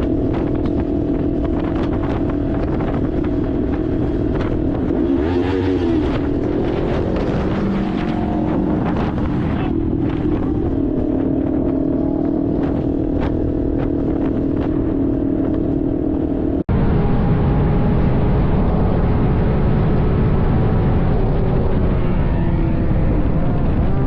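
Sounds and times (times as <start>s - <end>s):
vehicle engine with road noise: 0.0s - 24.0s.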